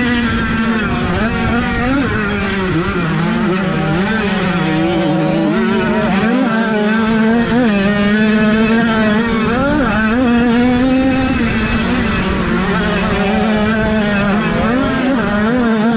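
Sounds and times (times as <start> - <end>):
motorbike engines revving: 0.0 - 15.9.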